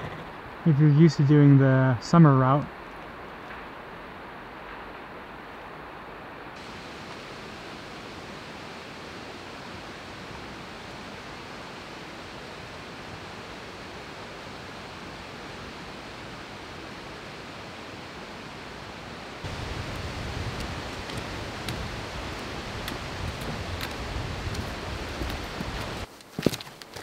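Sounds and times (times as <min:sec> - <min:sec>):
rushing waterfall water: 0:00.4 - 0:26.1.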